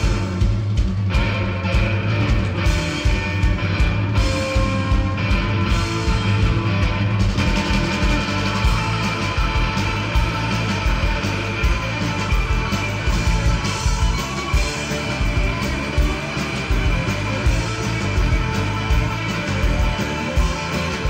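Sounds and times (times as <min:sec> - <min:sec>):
electric guitar: 0:00.0 - 0:21.0
steady drum beat: 0:00.0 - 0:21.0.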